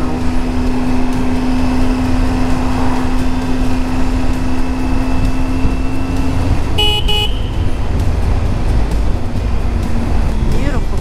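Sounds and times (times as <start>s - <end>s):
heavy wind: 0.0s - 11.0s
motorcycle engine running: 0.0s - 11.0s
road rumble: 0.0s - 11.0s.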